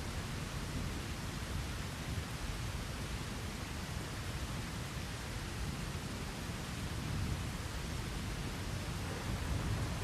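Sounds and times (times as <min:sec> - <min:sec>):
steady rain hiss: 0:00.0 - 0:10.0.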